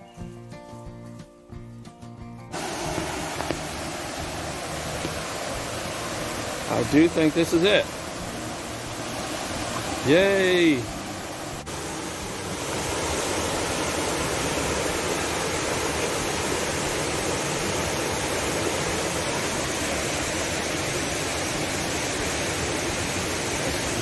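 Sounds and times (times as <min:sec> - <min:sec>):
waterfall rushing: 0:02.5 - 0:24.0.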